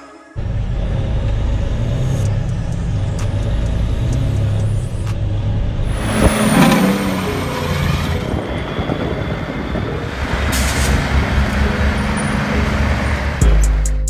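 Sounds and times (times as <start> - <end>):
diesel truck engine droning: 0.4 - 14.0
truck accelerating hard: 0.4 - 14.0.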